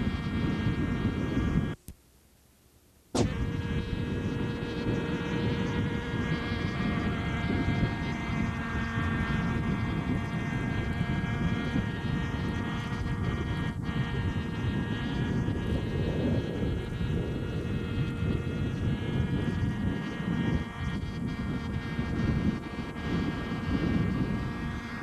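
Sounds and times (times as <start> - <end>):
model helicopter buzzing whine: 0.0 - 1.9, 3.1 - 25.0.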